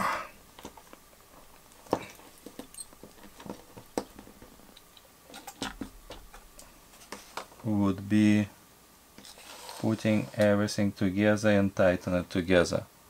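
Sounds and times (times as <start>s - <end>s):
rustle: 0.0s - 10.6s.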